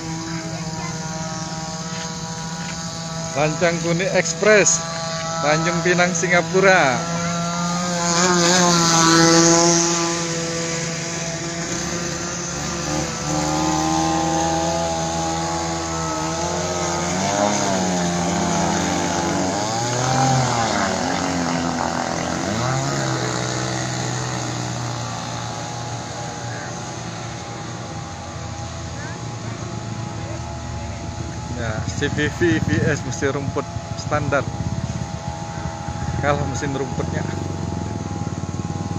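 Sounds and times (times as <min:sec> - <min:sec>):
two-stroke engine high revs: 0:00.0 - 0:38.9.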